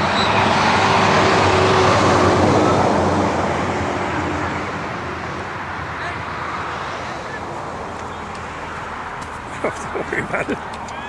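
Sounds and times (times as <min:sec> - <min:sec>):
passing vehicle engine and rush: 0:00.0 - 0:11.0.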